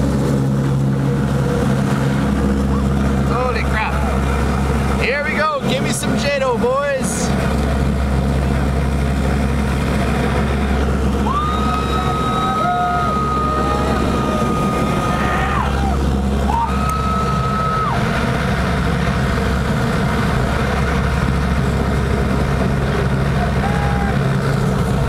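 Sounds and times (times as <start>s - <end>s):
jet engine and airflow rumble: 0.0s - 25.0s.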